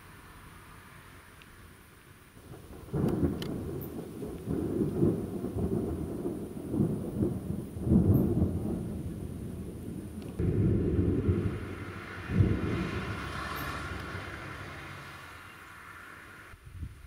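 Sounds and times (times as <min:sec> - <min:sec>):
thunder rumbling: 0:02.4 - 0:16.6.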